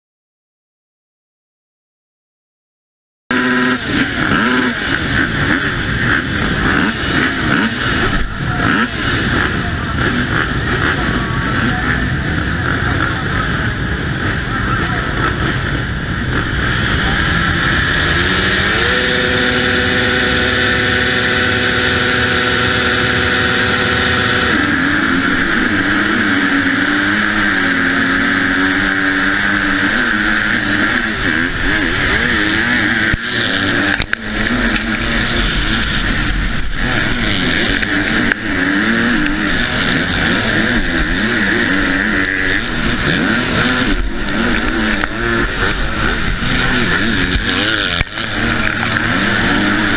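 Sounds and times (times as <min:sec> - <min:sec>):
motocross bike engine revving: 0:03.3 - 0:49.9.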